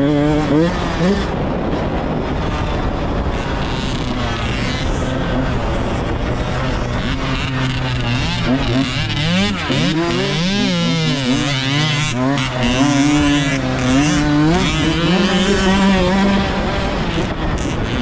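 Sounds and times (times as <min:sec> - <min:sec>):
dirt bike engine revving: 0:00.0 - 0:18.0
wind noise: 0:00.0 - 0:18.0.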